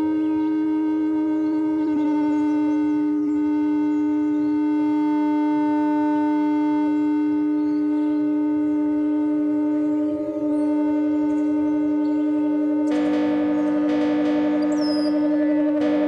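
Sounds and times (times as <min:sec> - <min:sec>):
synthesizer drone: 0:00.0 - 0:16.0.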